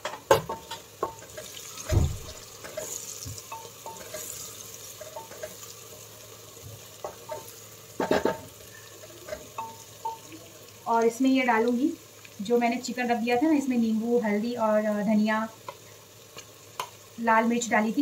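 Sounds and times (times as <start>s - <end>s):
onions sizzling: 0.0s - 18.0s.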